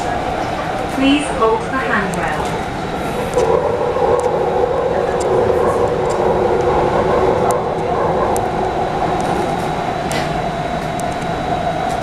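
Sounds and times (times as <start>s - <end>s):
faint high whine: 0.0s - 12.0s
train wheels rumbling: 0.0s - 12.0s.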